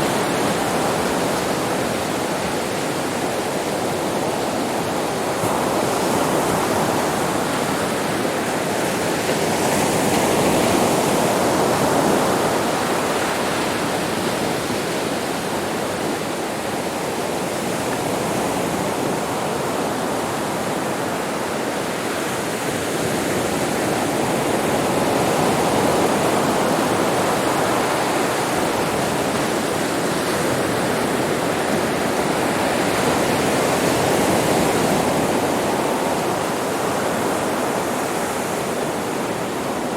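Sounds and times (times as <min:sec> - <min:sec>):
sea waves washing on beach: 0:00.0 - 0:39.9.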